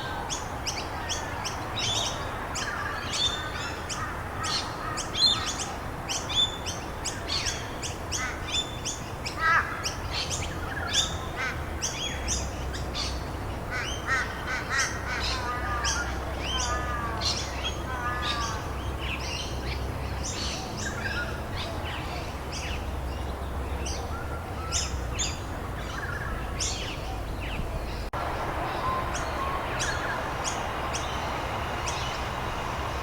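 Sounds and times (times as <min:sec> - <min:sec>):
birds chirping: 0:00.0 - 0:33.0
lower repeated bird calls: 0:00.0 - 0:33.0
steady background hiss: 0:00.0 - 0:33.0.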